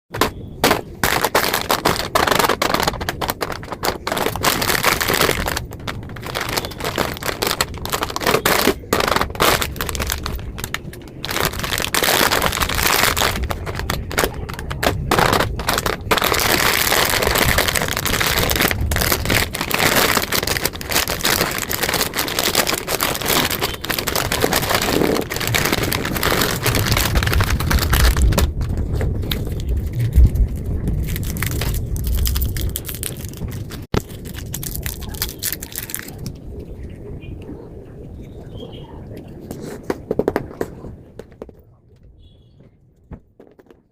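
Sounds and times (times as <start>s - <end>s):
plastic snack packets crinkling: 0.2s - 36.4s.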